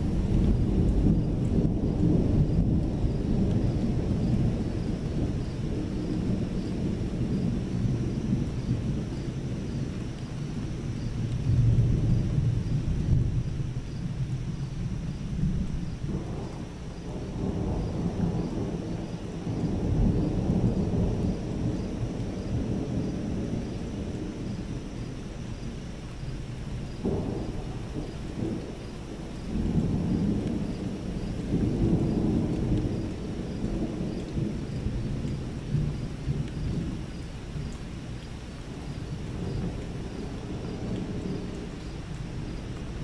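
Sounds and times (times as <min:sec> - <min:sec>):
thunder rumbling: 0:00.0 - 0:43.0.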